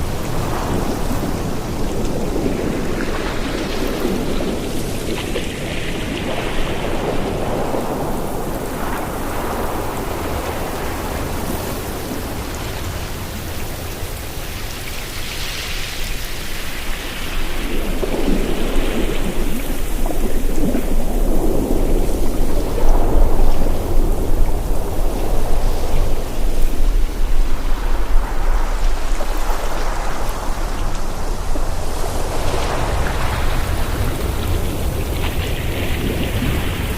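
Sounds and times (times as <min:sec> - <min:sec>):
ocean surf washing ashore: 0:00.0 - 0:36.9.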